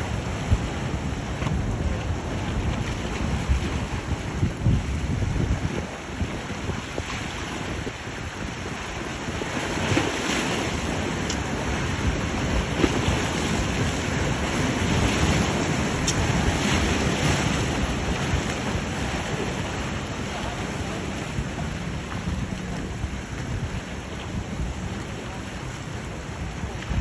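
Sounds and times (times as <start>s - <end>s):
waves breaking: 0.0s - 27.0s
wind buffeting microphone: 0.0s - 27.0s.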